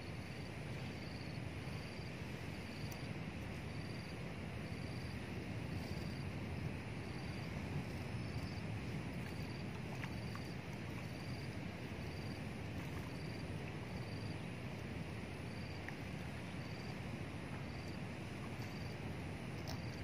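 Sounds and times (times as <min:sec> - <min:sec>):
insect chirping: 0:00.0 - 0:20.0
low outdoor rumble: 0:00.0 - 0:20.0.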